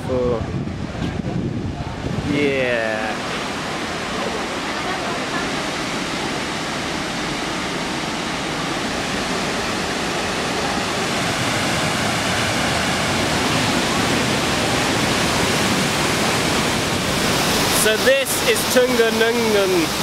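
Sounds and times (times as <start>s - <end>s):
waterfall rushing: 1.8s - 20.0s.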